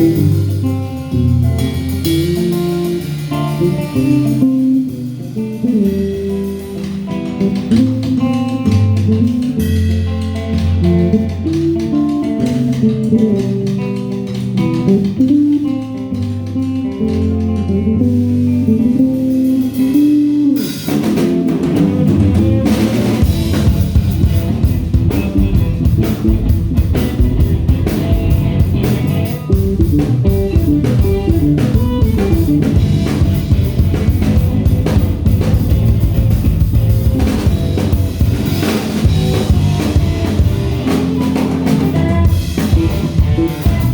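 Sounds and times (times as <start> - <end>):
drum kit beat: 0.0 - 43.9
guitar and bass melody: 0.0 - 43.9.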